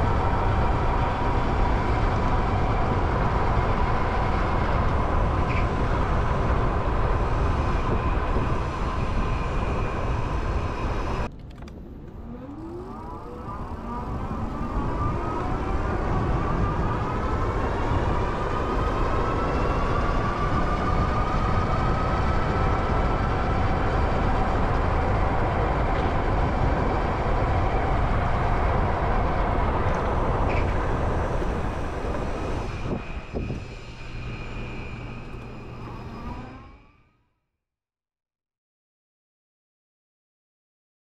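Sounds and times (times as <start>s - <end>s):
wind rush on microphone: 0.0s - 36.7s
electric motor whine: 0.0s - 37.2s.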